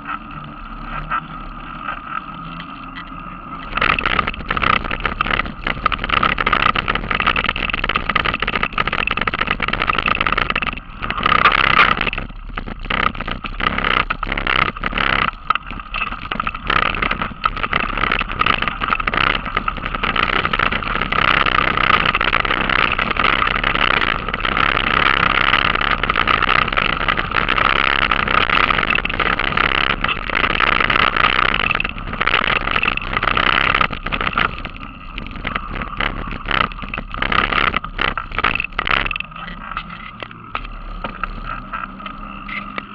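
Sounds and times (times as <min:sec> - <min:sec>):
bike rattling over bumps: 0:00.0 - 0:42.9
bike rolling noise: 0:00.0 - 0:42.9.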